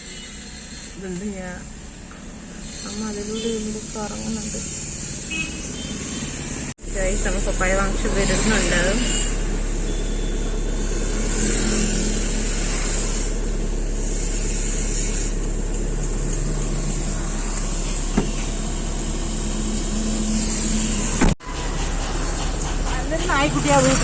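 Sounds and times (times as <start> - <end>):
road and engine noise: 0.0 - 24.0.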